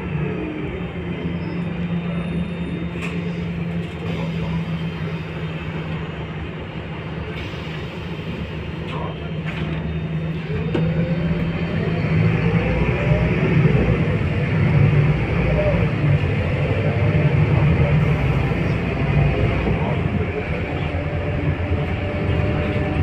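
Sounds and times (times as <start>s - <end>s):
bus accelerating with rising whine: 0.0s - 23.0s
bus engine humming: 0.0s - 23.0s.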